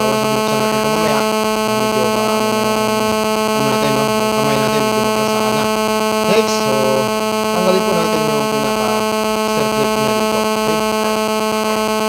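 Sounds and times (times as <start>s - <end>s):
pulsing electrical buzz: 0.0s - 12.0s.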